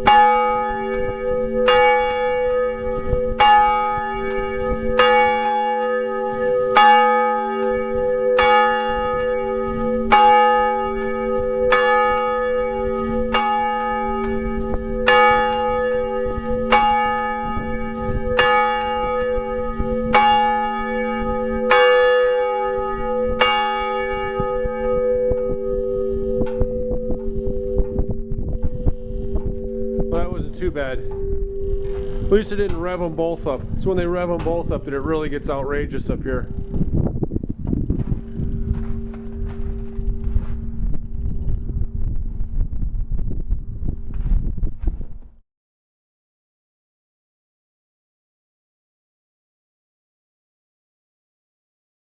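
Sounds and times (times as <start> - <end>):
large church bell ringing: 0.0 - 42.2.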